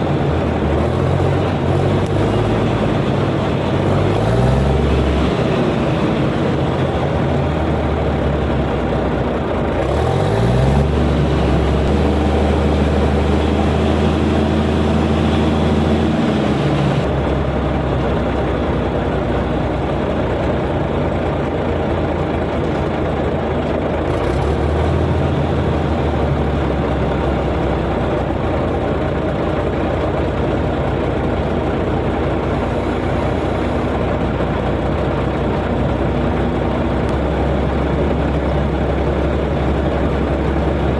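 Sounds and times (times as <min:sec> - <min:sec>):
bulldozer diesel engine revving: 0:00.0 - 0:40.9.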